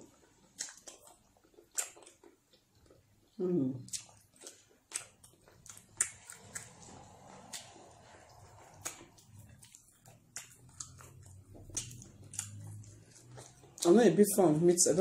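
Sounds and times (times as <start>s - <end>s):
wet chewing and lip smacks: 0.0s - 14.4s
faint low hum: 0.0s - 15.0s.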